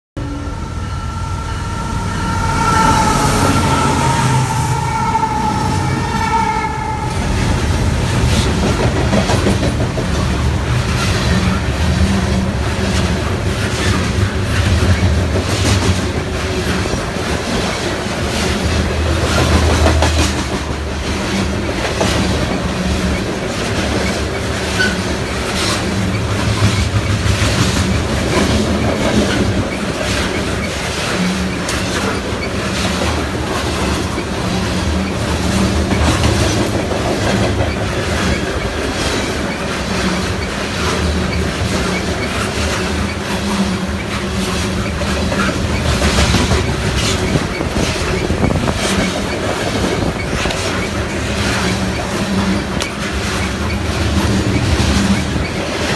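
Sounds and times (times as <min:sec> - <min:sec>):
freight train wheels rumbling: 0:00.2 - 0:55.9
wheels clicking over rail joints: 0:08.3 - 0:55.9.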